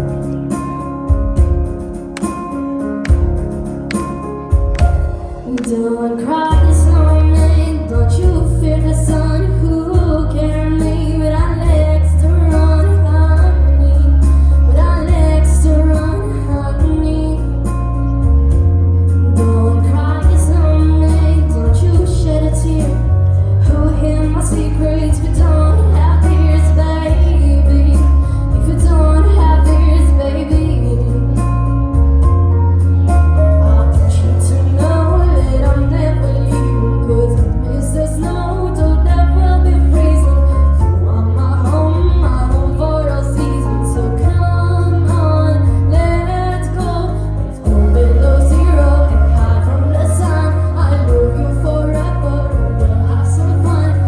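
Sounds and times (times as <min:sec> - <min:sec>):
backing track with heavy bass: 0:00.0 - 0:54.0
woman singing: 0:05.4 - 0:17.9, 0:19.3 - 0:31.7, 0:33.3 - 0:54.0.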